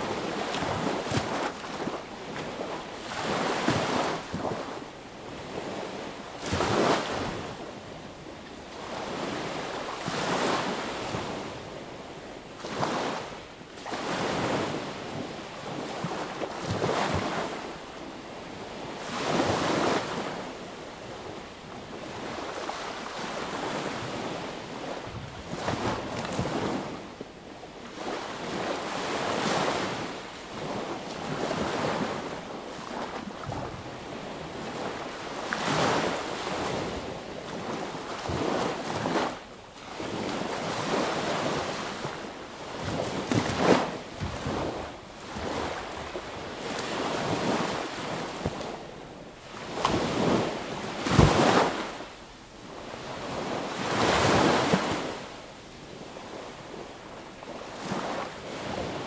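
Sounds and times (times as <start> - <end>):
sea waves breaking on shore: 0.0 - 27.2, 27.8 - 59.0.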